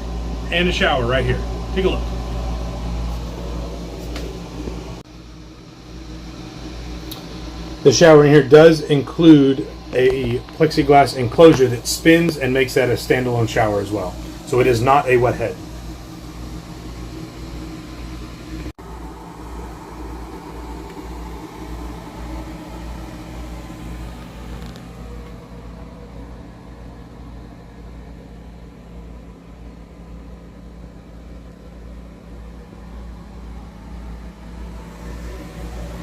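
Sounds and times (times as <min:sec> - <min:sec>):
fluctuating low rumble: 0:00.0 - 0:36.0
low mechanical hum: 0:00.0 - 0:36.0.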